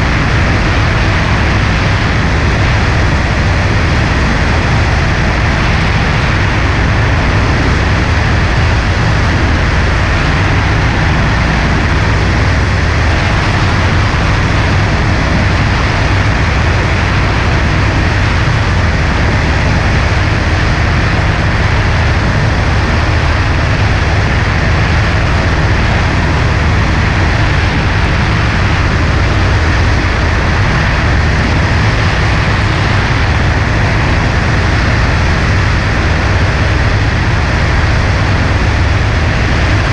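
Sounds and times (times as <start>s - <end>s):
propeller plane engine droning: 0.0s - 39.9s
rush of air: 0.0s - 39.9s.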